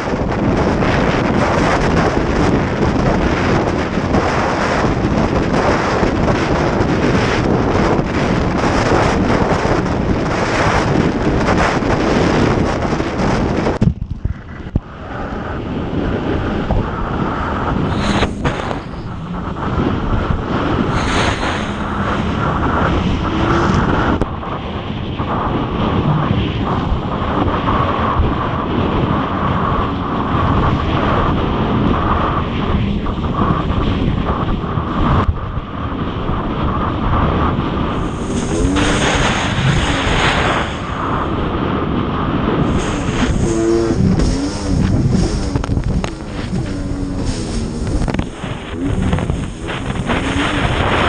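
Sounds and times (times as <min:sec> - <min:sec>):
jet ski engine running: 0:00.0 - 0:51.0
wind buffeting microphone: 0:00.0 - 0:51.0.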